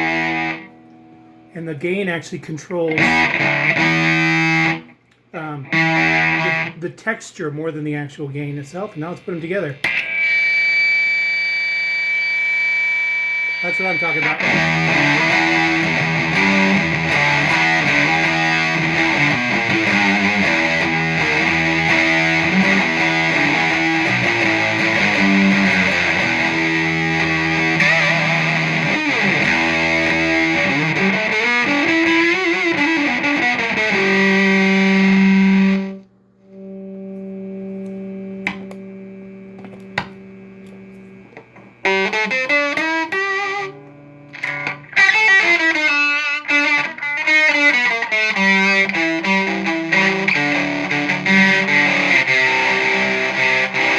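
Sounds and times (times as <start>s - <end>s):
heavily distorted electric guitar: 0.0s - 7.0s, 8.9s - 53.9s.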